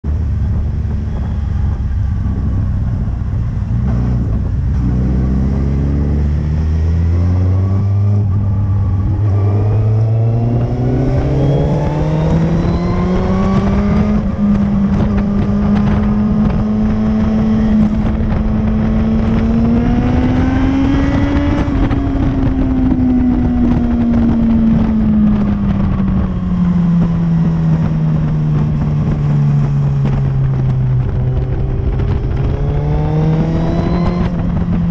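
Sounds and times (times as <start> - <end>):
motorcycle engine revving: 0.0 - 34.9
wind rushing over microphone: 0.0 - 34.9.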